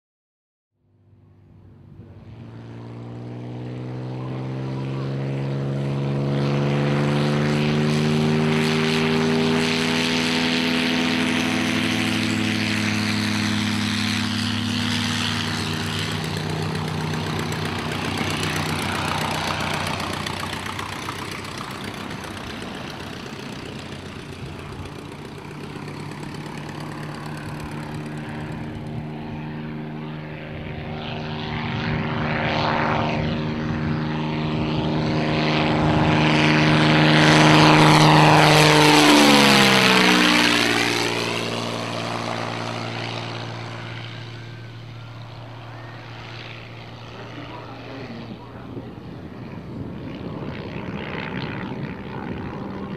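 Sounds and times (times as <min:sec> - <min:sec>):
propeller plane engine drone: 0:00.8 - 0:52.9.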